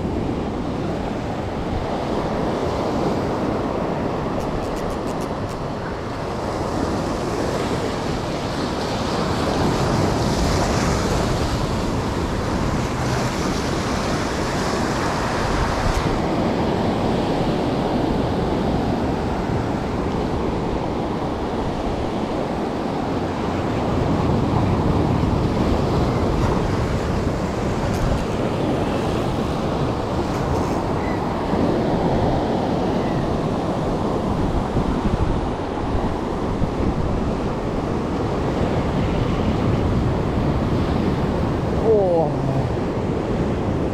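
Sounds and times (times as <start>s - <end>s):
ocean surf on rocky shore: 0.0s - 43.9s.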